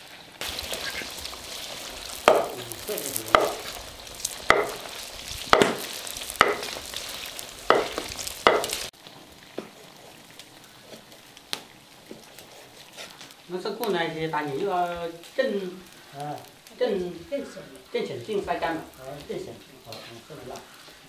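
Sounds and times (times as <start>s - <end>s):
pork fat sizzling in a wok: 0.0s - 21.0s.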